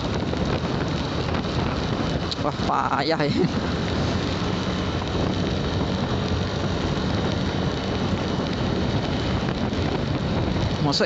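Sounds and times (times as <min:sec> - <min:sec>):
motorcycle engine hum: 0:00.0 - 0:11.0
wind and rain on microphone: 0:00.0 - 0:11.0.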